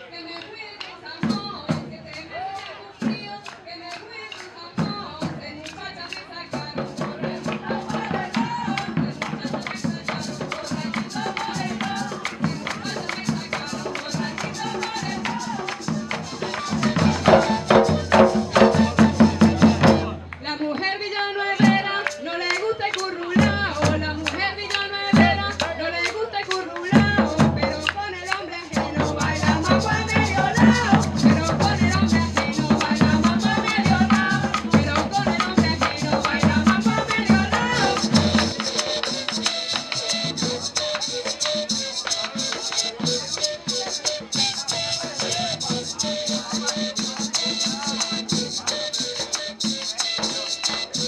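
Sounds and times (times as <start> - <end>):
maracas rattle rhythm: 0.0 - 20.9, 21.5 - 51.0
person singing: 4.4 - 51.0
hand drums: 4.7 - 20.4, 21.6 - 51.0.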